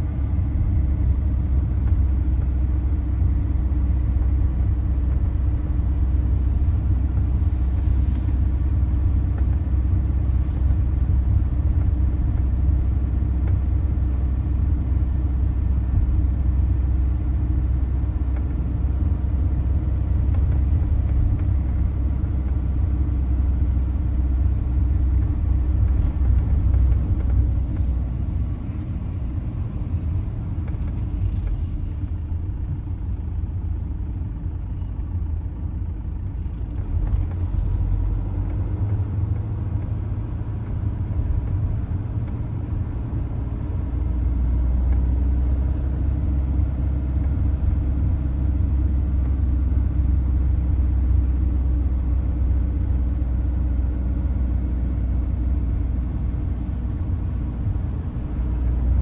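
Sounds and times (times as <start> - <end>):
low vehicle rumble: 0.0 - 59.0.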